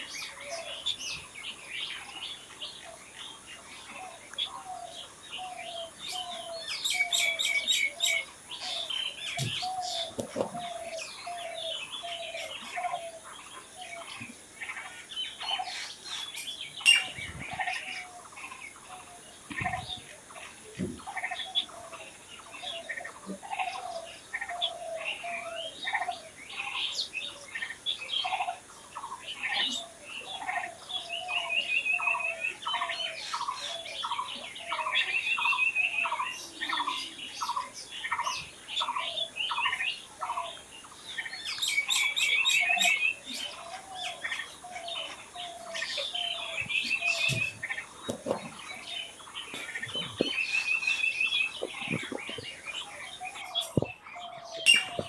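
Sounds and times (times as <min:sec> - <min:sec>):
low repeated bird notes: 0:00.0 - 0:55.0
songbirds chirping and singing: 0:00.0 - 0:55.0.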